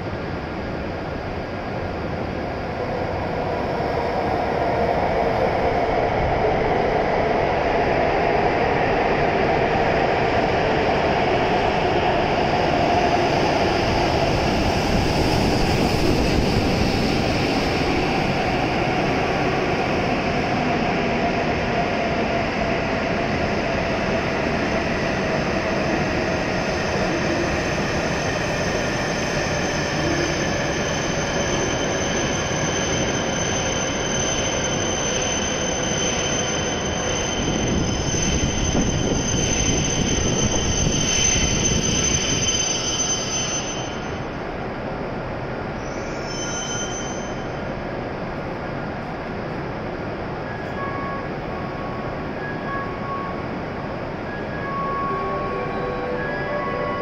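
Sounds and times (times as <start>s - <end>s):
train rush of wheels and air: 0.0s - 57.0s.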